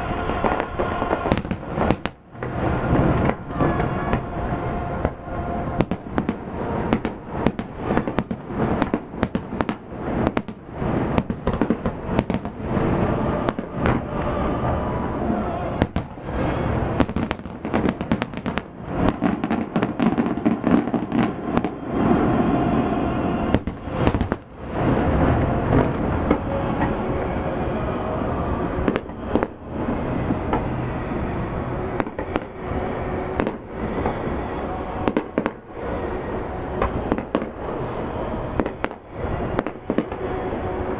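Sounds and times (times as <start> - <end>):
fireworks bangs and booms: 0.0 - 40.9
fireworks crackle: 0.0 - 40.9.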